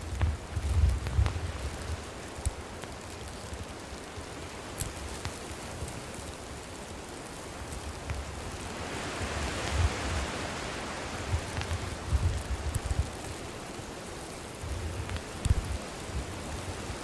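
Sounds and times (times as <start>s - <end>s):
campfire hissing: 0.0s - 17.0s
fire crackles: 0.0s - 17.0s.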